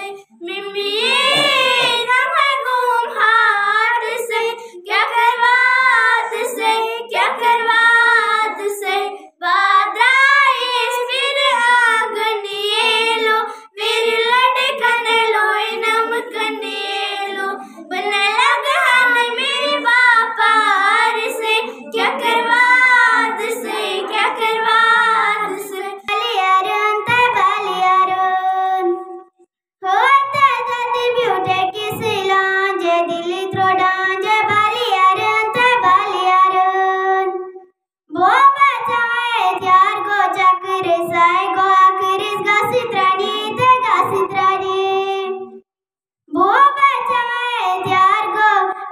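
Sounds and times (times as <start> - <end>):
girls singing unaccompanied: 0.0 - 29.2, 29.8 - 37.4, 38.2 - 45.6, 46.4 - 48.9.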